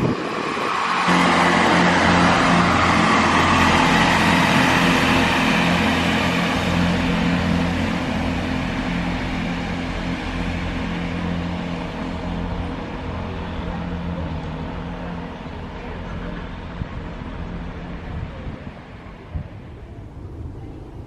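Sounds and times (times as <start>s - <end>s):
broad rushing noise: 0.0s - 21.0s
vehicle engine humming: 0.0s - 21.0s.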